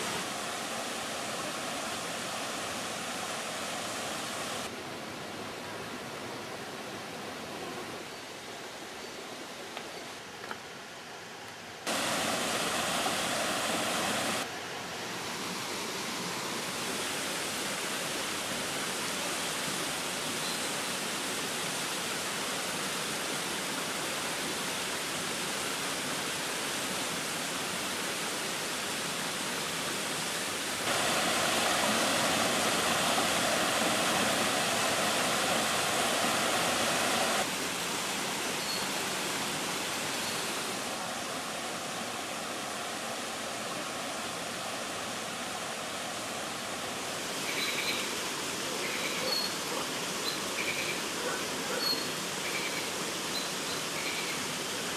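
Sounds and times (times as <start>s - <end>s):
waterfall rushing: 0.0s - 4.8s, 11.9s - 54.9s.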